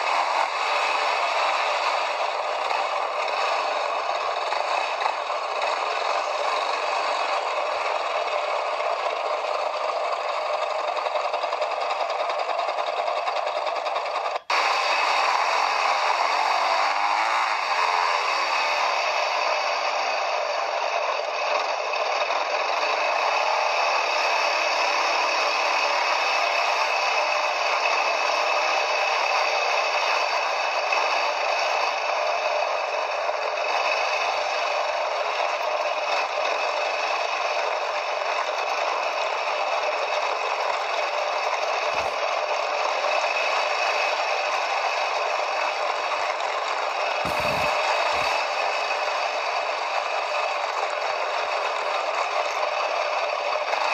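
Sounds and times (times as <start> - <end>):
quad bike engine running: 0.0 - 53.9
quad bike rattling over ground: 0.0 - 53.9.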